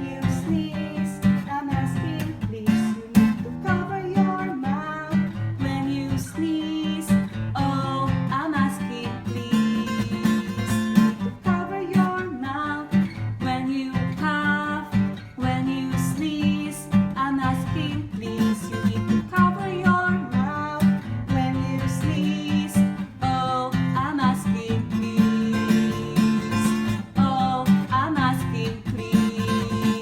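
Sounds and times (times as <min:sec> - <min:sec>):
person singing: 0:00.0 - 0:30.0
strummed acoustic guitar: 0:00.0 - 0:30.0.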